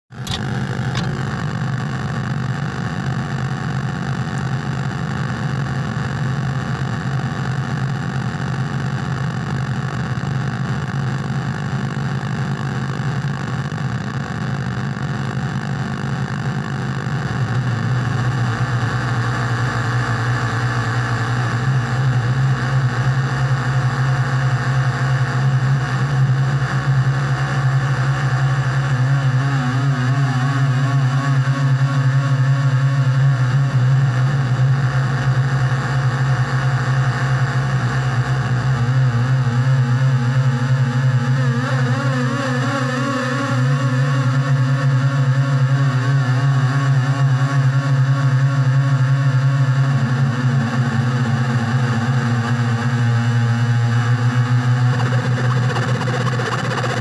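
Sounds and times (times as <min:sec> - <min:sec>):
industrial noise music drone: 0:00.2 - 0:57.0.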